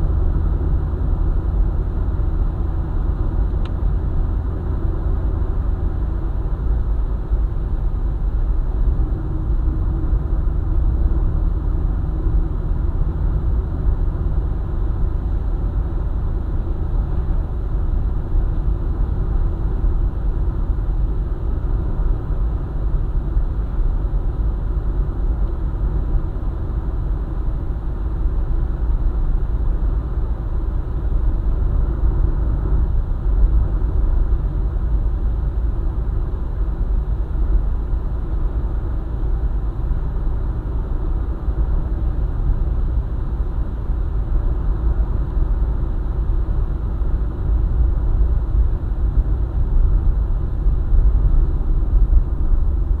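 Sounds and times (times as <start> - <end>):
car driving on highway: 0.0 - 53.0.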